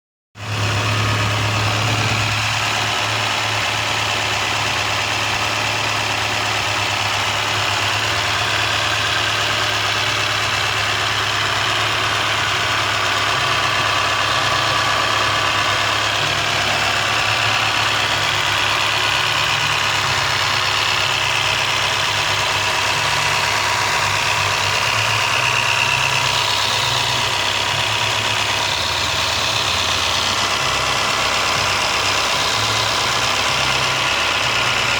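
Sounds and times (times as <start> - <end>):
car engine idling: 0.4 - 34.9.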